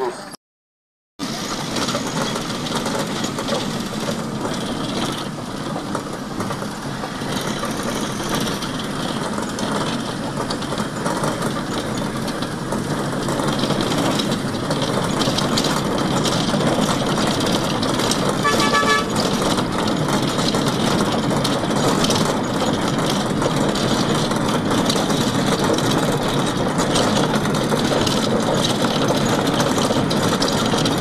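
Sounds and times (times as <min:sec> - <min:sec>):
road traffic: 0:00.0 - 0:00.4, 0:01.2 - 0:31.0.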